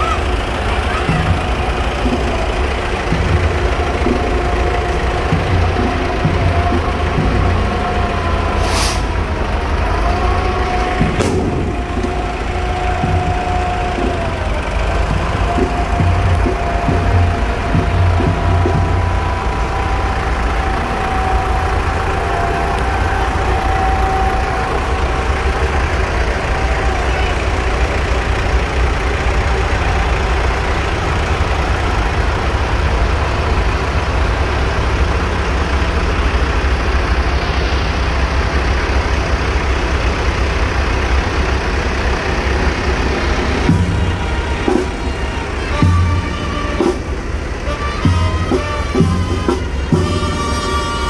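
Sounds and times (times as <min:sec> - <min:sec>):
tractor diesel engines rumbling: 0:00.0 - 0:51.0.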